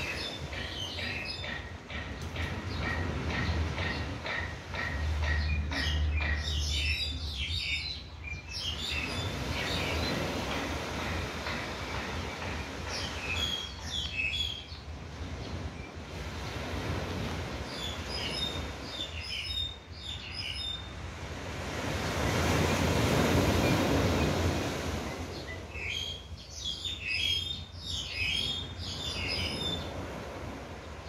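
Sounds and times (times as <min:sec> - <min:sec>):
birds chirping: 0:00.0 - 0:16.9, 0:17.5 - 0:21.0, 0:22.0 - 0:30.2
broad rush of noise: 0:00.0 - 0:31.0.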